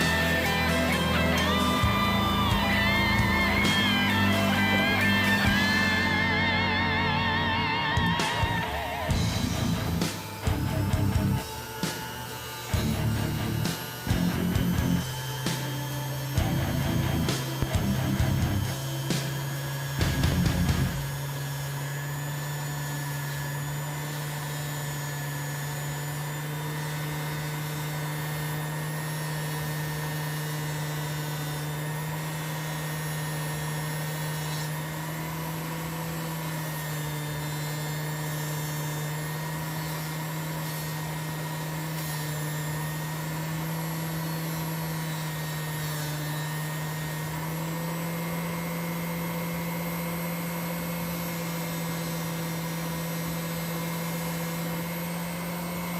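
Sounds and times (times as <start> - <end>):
buffing wheel motor humming: 0.0 - 55.9.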